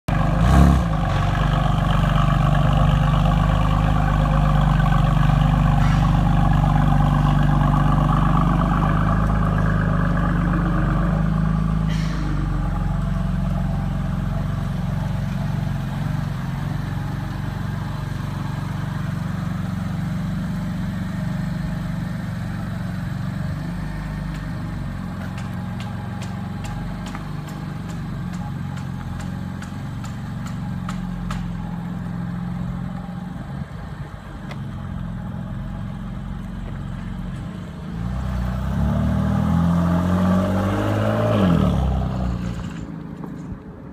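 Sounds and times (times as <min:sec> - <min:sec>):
car engine idling: 0:00.1 - 0:37.9.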